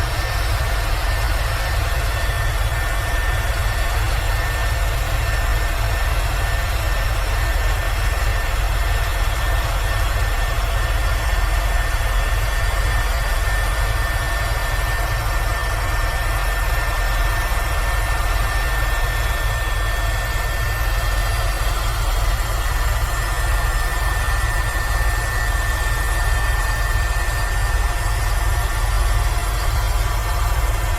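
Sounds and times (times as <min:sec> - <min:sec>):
helicopter turbine and rotor: 0:00.0 - 0:30.9.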